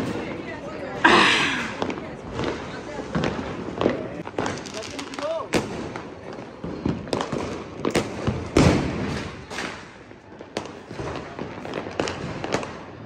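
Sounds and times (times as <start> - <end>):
firecrackers banging: 0.0 - 13.0
small firecracker pops: 1.7 - 13.0.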